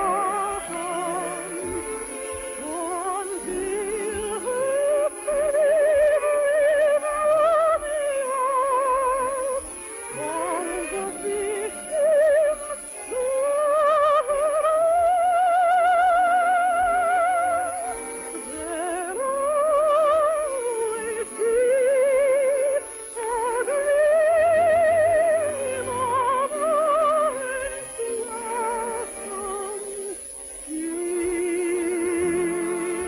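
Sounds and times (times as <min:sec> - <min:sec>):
soprano singing classical song: 0:00.0 - 0:33.0.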